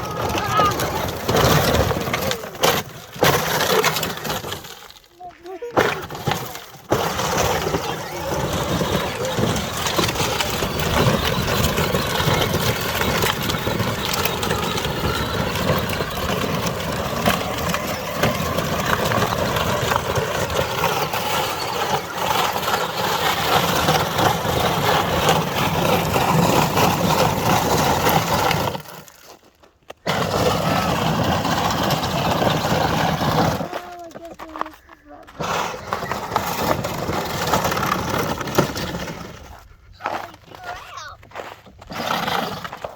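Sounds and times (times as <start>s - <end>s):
electric toy motors whining: 0.0s - 29.0s, 30.1s - 41.1s
plastic tyres crunching over stones: 0.0s - 42.9s.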